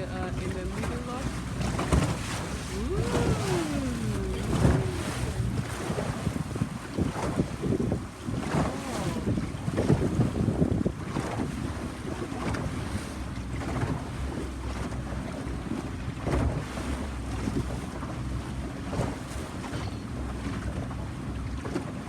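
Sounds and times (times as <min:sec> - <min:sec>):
wind buffeting the microphone: 0:00.0 - 0:19.8
boat engine running: 0:00.0 - 0:22.0
water splashing around hull: 0:00.0 - 0:22.0.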